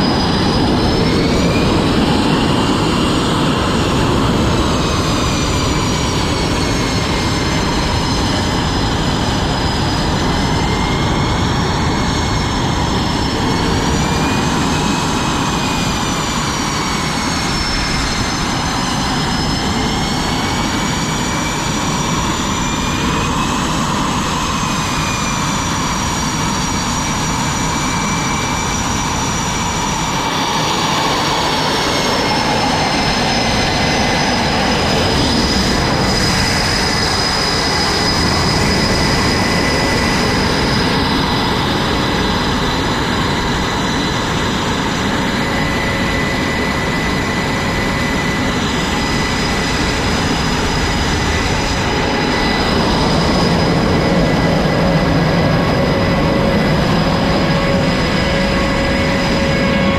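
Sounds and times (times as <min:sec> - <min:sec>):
high engine whine: 0:00.0 - 0:59.9
jet engines roaring: 0:00.0 - 0:59.9.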